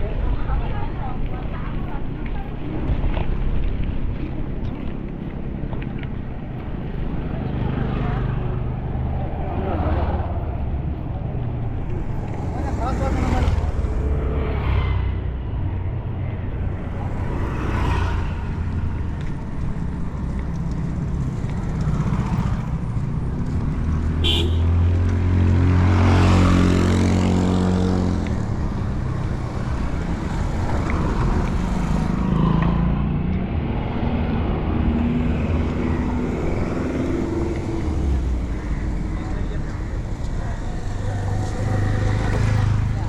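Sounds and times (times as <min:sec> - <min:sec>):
road traffic rumble: 0:00.0 - 0:43.0
motor vehicle passing: 0:00.6 - 0:43.0.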